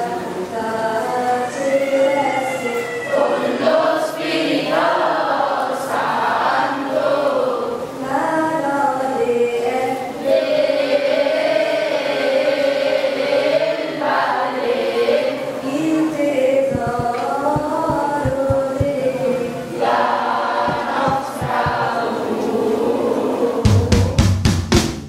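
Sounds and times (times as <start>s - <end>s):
children's choir singing a hymn: 0.0s - 24.3s.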